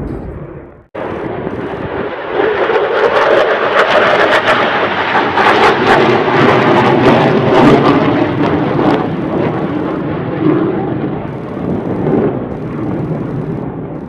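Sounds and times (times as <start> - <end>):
jet passing in afterburner: 0.0 - 14.0.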